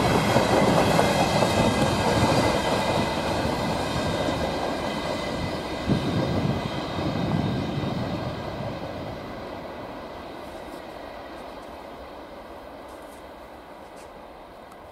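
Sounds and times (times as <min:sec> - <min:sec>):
train wheels rolling over rails: 0:00.0 - 0:14.9.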